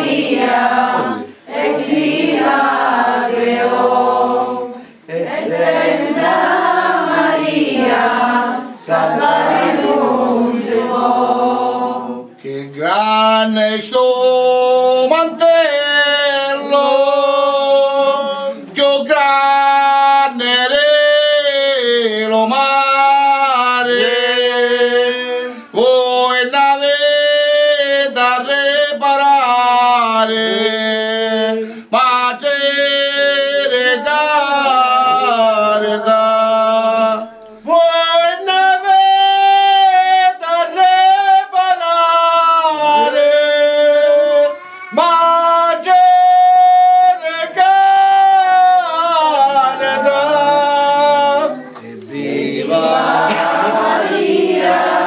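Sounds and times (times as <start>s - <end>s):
men singing unaccompanied: 0.0s - 55.0s.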